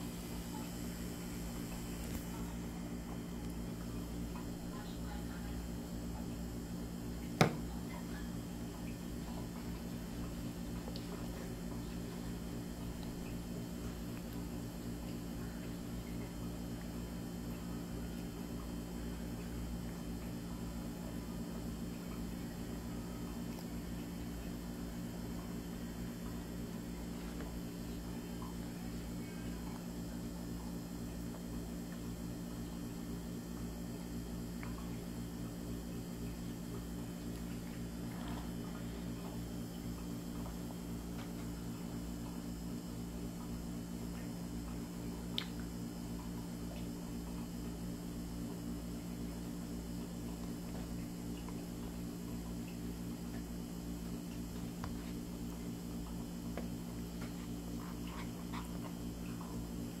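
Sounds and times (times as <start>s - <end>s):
low electrical hum: 0.0s - 60.0s.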